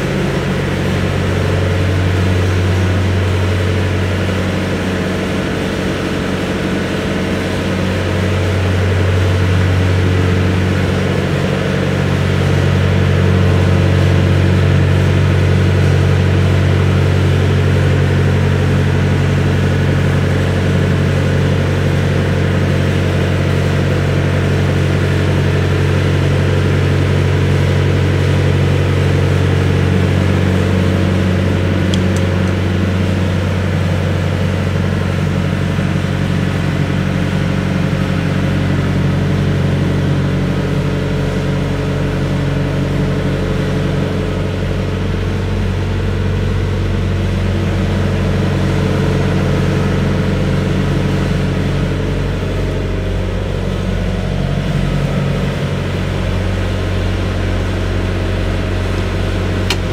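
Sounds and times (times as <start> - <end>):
excavator diesel engine idling: 0.0 - 59.9.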